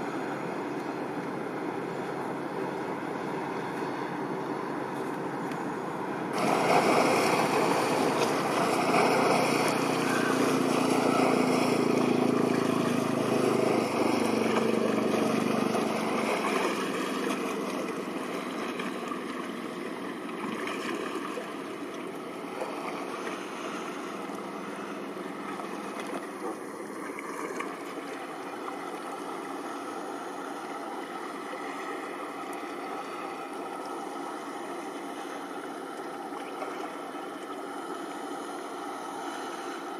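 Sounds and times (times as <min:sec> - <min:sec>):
rushing water wash: 0:00.0 - 0:39.9
ship engine rumble: 0:00.0 - 0:39.9
wind: 0:00.0 - 0:39.9.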